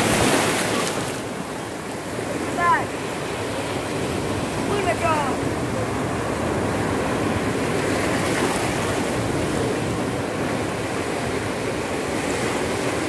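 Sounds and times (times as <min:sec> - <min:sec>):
sea waves: 0:00.0 - 0:13.0
wind: 0:00.0 - 0:13.0.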